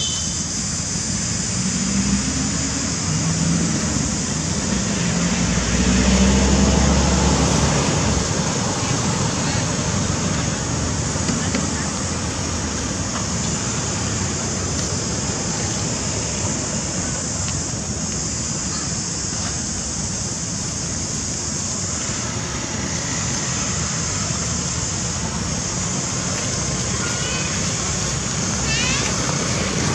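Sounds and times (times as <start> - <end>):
high hiss: 0.0 - 29.9.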